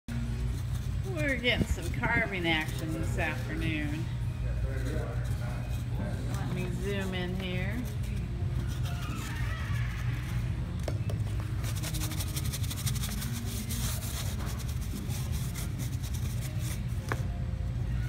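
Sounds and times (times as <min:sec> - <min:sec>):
pencil scratching foam: 0:00.1 - 0:04.0, 0:04.8 - 0:10.4, 0:11.4 - 0:17.2.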